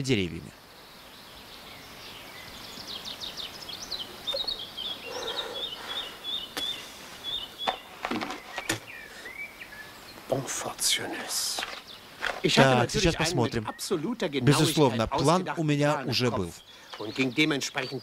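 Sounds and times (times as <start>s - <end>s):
songbird chirping and trilling: 0.0s - 18.0s
steady outdoor hiss: 0.0s - 18.0s.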